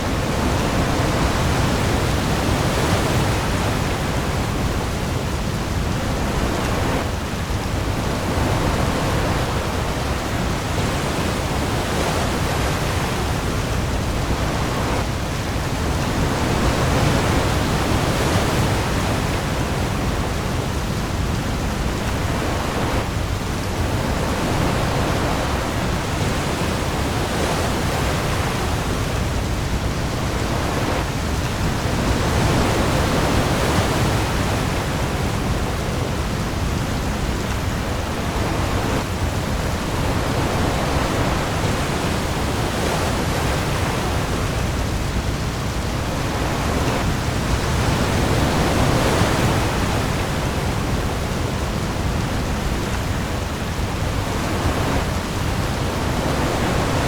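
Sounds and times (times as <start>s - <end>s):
heavy rain on the sea: 0.0s - 57.0s
waves: 0.0s - 57.0s.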